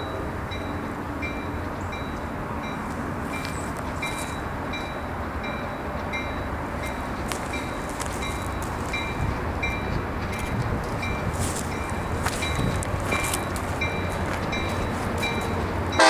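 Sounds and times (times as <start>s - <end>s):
diesel locomotive rumble: 0.0s - 16.0s
locomotive bell ringing: 0.0s - 16.0s.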